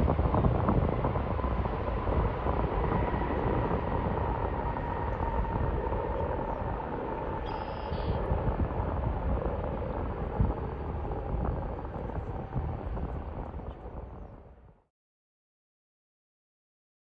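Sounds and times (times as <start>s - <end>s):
jet engines rumbling: 0.0s - 14.7s.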